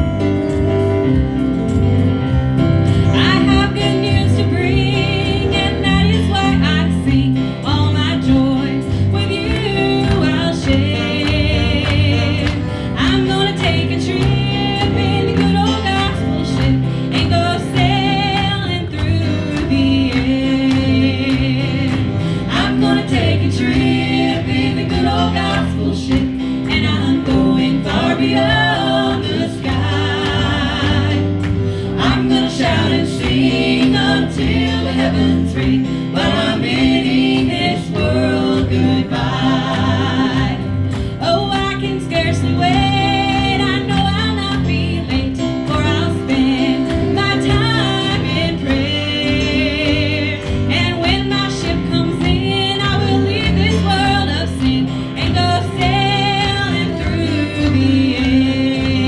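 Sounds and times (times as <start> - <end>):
electric bass: 0.0 - 59.0
keyboard: 0.0 - 59.0
women singing gospel: 3.0 - 59.0.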